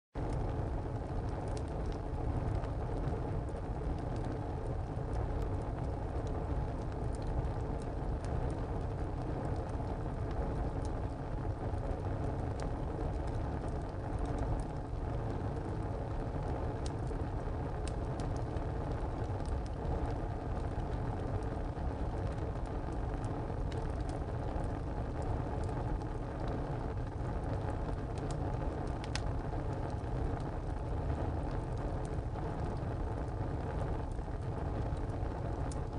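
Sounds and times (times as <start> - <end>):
burning wood crackling and popping: 0.2 - 35.9
low rush of flame: 0.2 - 35.9.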